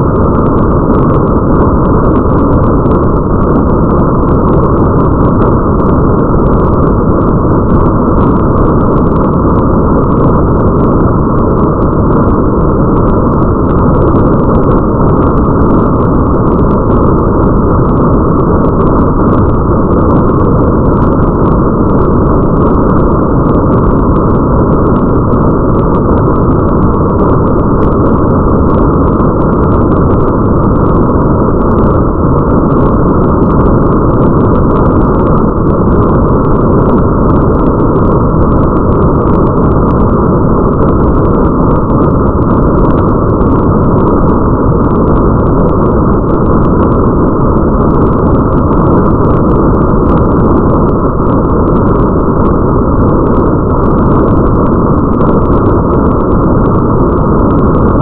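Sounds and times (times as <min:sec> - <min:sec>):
muffled rain: 0:00.0 - 0:58.0.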